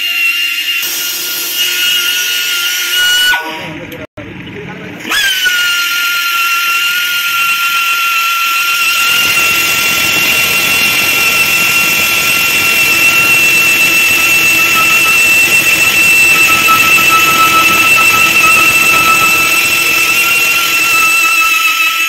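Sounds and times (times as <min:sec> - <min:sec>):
rotary buffer whining: 0:00.7 - 0:22.0.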